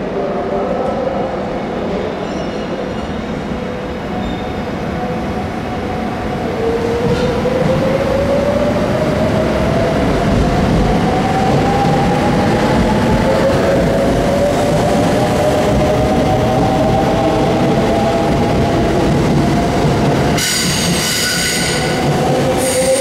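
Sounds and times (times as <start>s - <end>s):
train cars rumbling: 1.0s - 23.0s.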